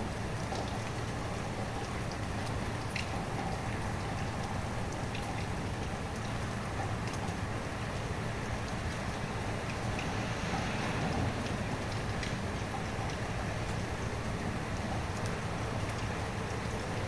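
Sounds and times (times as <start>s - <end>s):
raindrops ticking close by: 0.0s - 17.0s
steady rain: 0.0s - 17.0s.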